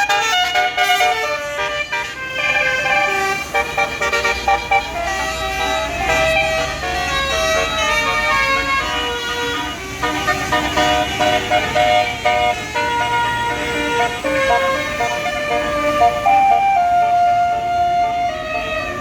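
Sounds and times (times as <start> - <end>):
bus engine rumbling: 0.0 - 19.0
musical horn playing a tune: 0.0 - 19.0.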